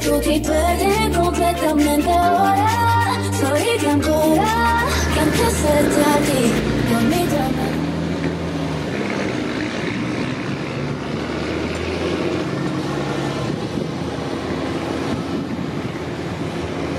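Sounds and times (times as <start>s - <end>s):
tractor diesel engines droning: 0.0s - 16.9s.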